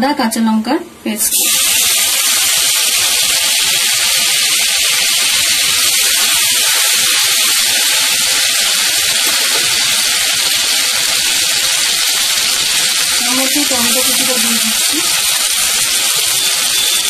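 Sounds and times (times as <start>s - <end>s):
paste sizzling in hot oil: 1.3s - 17.0s.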